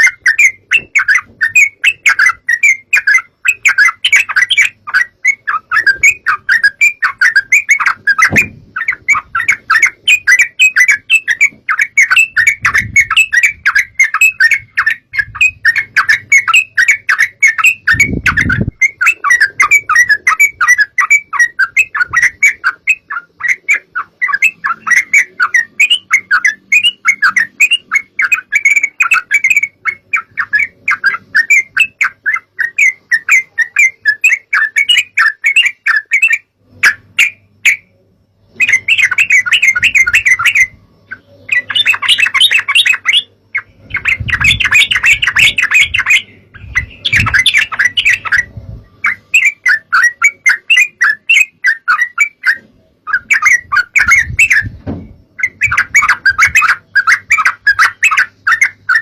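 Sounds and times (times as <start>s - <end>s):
birds chattering: 0.0s - 59.0s.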